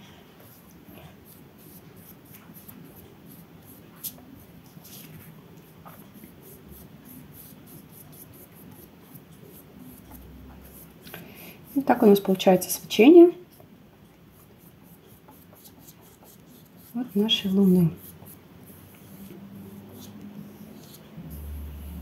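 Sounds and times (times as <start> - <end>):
paintbrush scratching on paper: 0.4 - 11.0, 11.6 - 12.4, 14.3 - 22.0.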